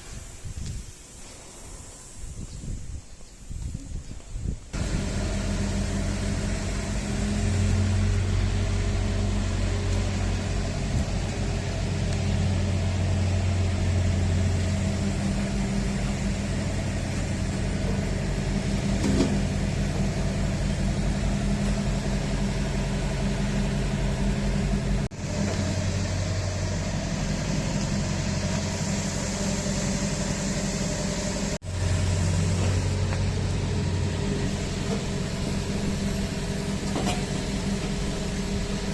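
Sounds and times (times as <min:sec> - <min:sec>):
excavator diesel engine running: 0:04.7 - 0:38.9.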